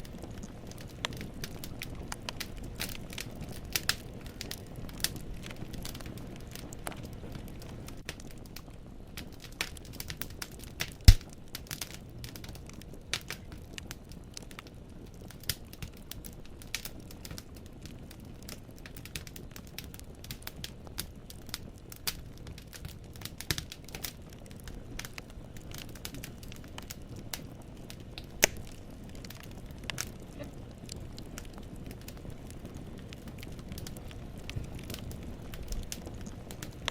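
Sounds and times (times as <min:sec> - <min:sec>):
firewood crackling and popping: 0:00.0 - 0:36.9
low rumble of fire: 0:00.0 - 0:36.9.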